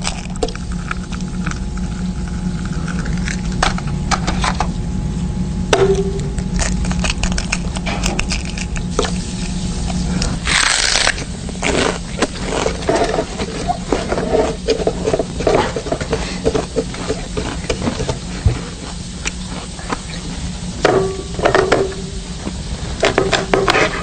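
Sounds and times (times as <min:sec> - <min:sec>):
crunching from noisy eating: 0:00.0 - 0:24.0.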